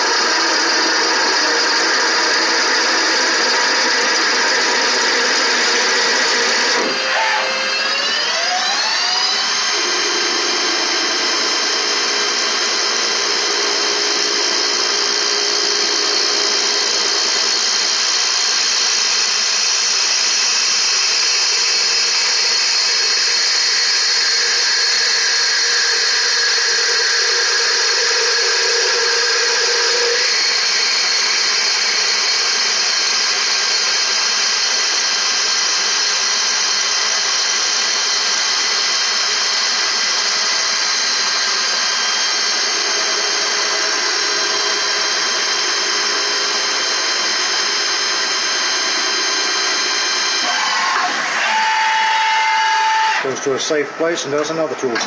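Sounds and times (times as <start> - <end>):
lathe machine whine: 0.0 - 55.0.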